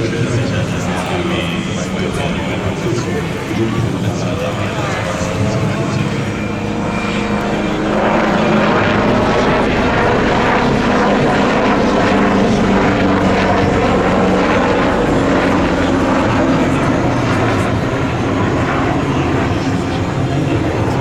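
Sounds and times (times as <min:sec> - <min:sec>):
helicopter turbine and rotor noise: 0:00.0 - 0:21.0.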